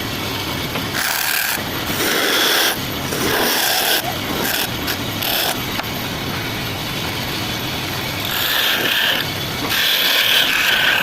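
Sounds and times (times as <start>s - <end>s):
tool scraping spinning wood: 0.0s - 11.0s
wood lathe running: 0.0s - 11.0s.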